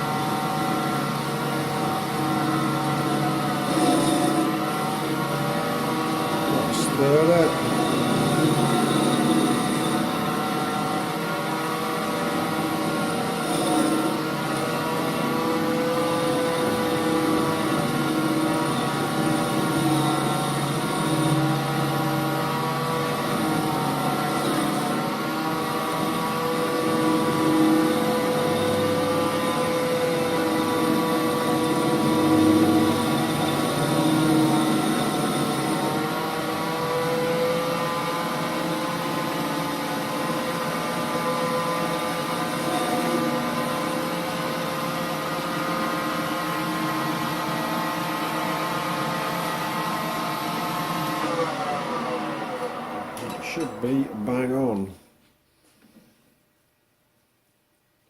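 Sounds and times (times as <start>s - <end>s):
lathe motor humming and whining: 0.0s - 54.3s.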